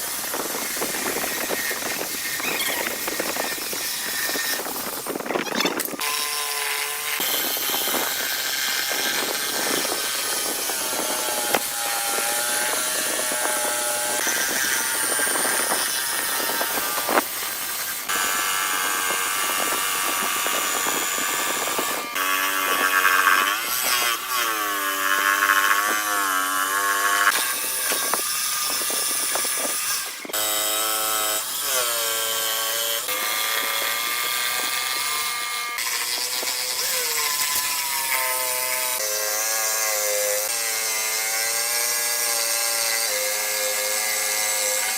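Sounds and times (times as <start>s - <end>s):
power tool motor whining: 0.0s - 44.9s.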